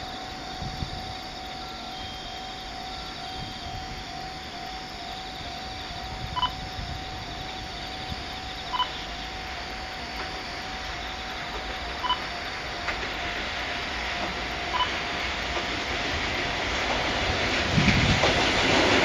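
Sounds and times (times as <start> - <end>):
pulsing alarm tone: 0.0 - 17.7
freight train rumbling: 0.0 - 19.0.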